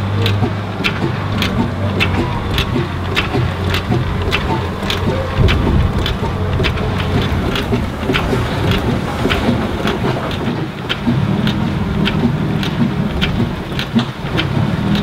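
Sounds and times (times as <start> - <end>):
regular sharp clicking: 0.0 - 15.0
steam traction engine running: 0.0 - 15.0.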